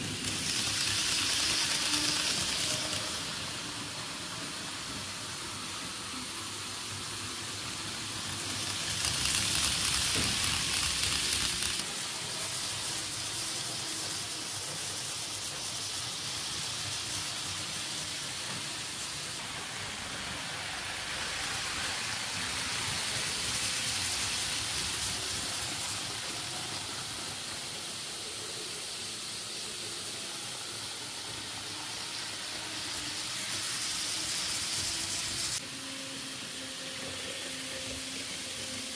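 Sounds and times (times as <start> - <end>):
model trains hissing: 0.0 - 38.9.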